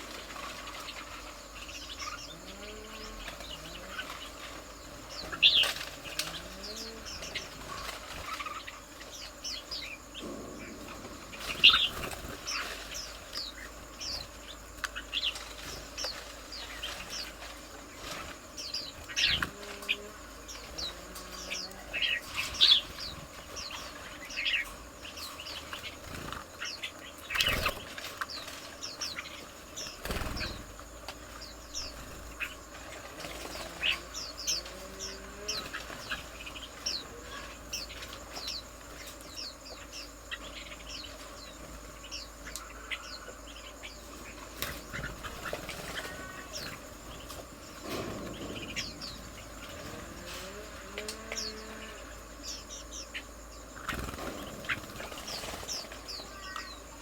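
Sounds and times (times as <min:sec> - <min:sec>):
high insect drone: 0:00.0 - 0:57.0
small birds chirping: 0:00.0 - 0:57.0.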